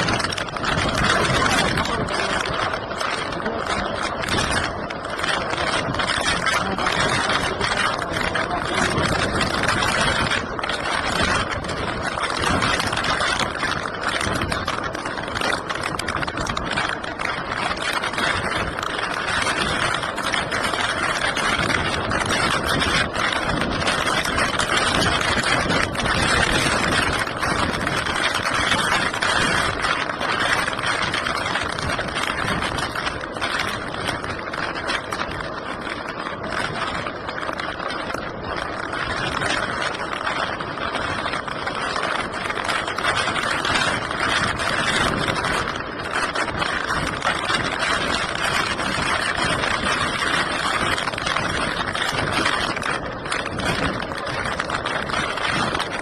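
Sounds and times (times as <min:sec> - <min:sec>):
continuous rushing noise: 0:00.0 - 0:56.0.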